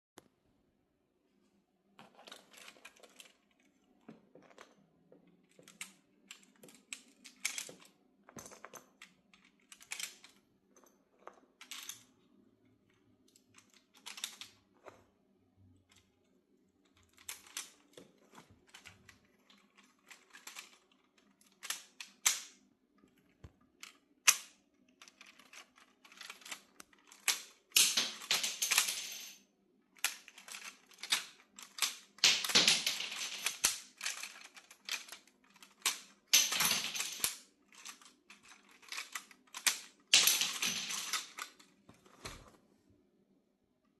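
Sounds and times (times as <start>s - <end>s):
plastic bricks clicking: 2.0s - 12.2s, 12.9s - 15.0s, 16.8s - 29.4s, 30.0s - 41.7s.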